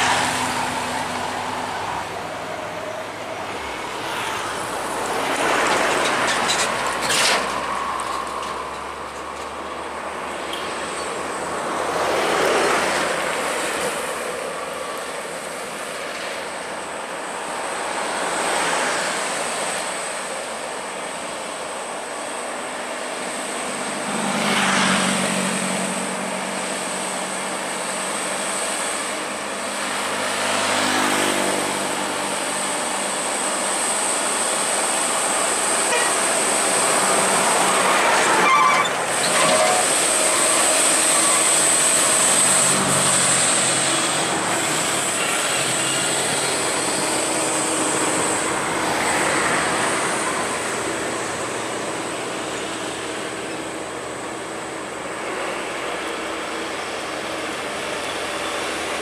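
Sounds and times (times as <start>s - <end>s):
diesel trucks passing uphill: 0.0s - 59.0s.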